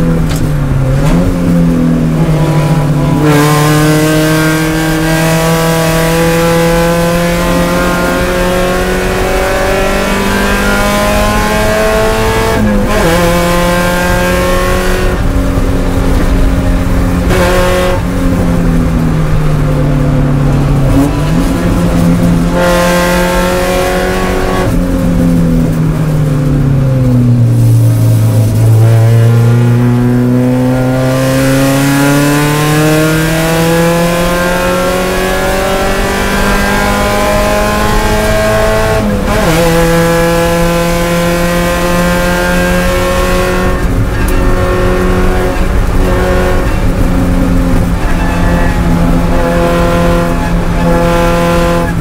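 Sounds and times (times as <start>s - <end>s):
race car engine under load: 0.0s - 52.0s.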